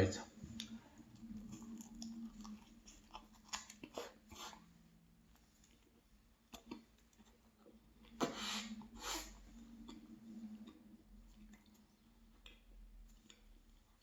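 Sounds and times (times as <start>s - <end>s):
chewing pastry: 0.5s - 14.0s.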